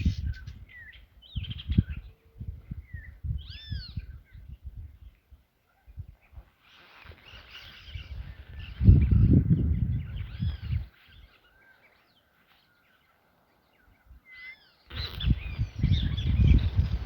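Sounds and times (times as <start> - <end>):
wild birds chirping: 0.0 - 17.0.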